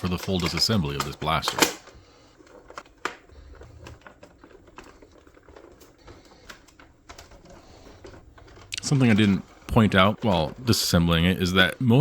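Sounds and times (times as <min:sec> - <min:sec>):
plastic parts clicking: 0:00.0 - 0:12.0.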